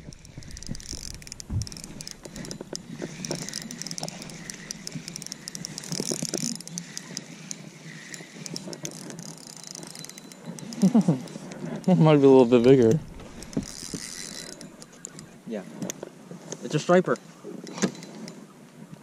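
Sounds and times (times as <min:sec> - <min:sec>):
spinning reel clicking: 0:00.0 - 0:16.0.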